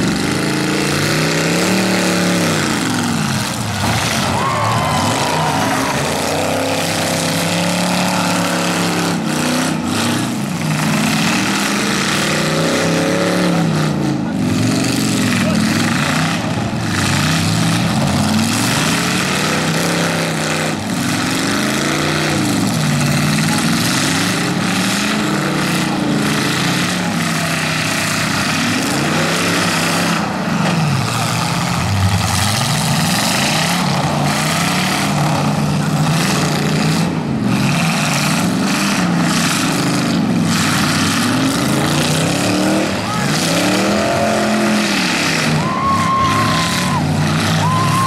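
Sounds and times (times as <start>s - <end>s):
cars crashing: 0.0s - 48.0s
engines revving: 0.0s - 48.0s.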